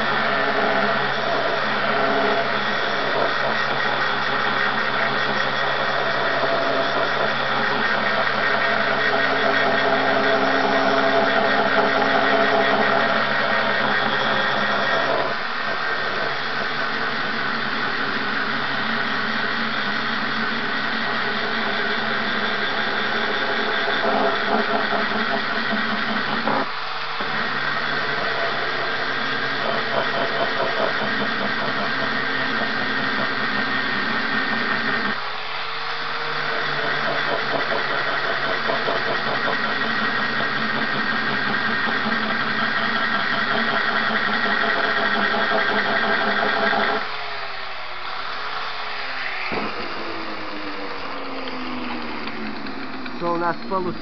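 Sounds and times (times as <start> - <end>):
angle grinder grinding metal: 0.0 - 54.0.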